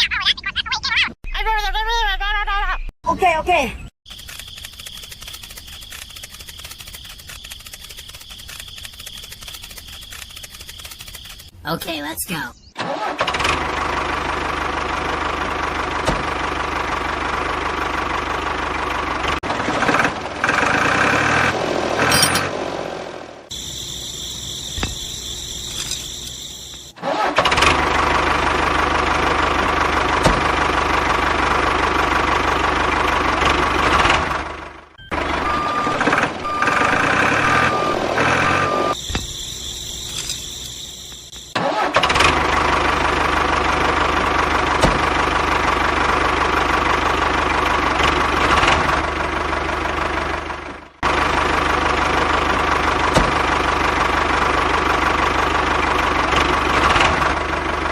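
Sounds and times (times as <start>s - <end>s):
small tractor engine running: 4.1s - 11.5s, 12.8s - 57.9s.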